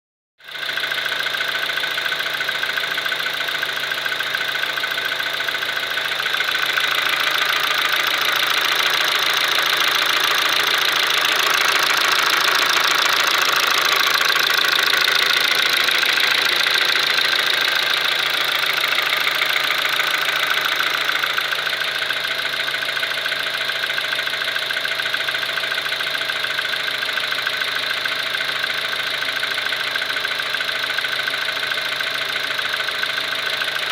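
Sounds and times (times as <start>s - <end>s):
car engine idling: 0.4s - 33.9s
fast metallic engine knock: 0.5s - 33.9s.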